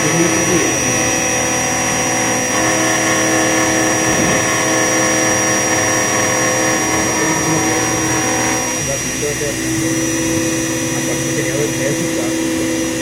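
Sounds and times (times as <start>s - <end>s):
milling machine spindle whining: 0.0s - 13.0s.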